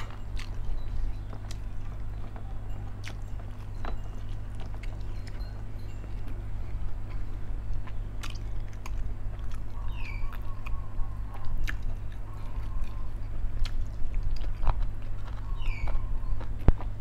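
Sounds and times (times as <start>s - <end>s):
man chewing and lip smacking: 0.0s - 17.0s
steady low hum: 0.0s - 17.0s.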